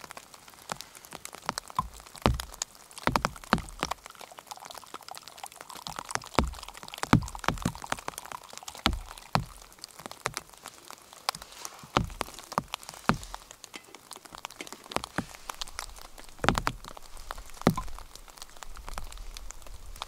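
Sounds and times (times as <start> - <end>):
drops falling from trees tapping: 0.0 - 5.0, 5.6 - 20.0
rain: 0.0 - 20.0.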